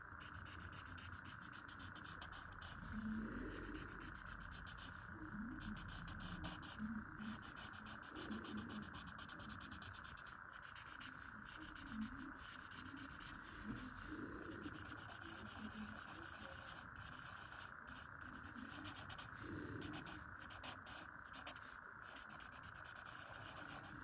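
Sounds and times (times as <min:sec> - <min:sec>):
pencil scratching on paper: 0:00.2 - 0:24.0.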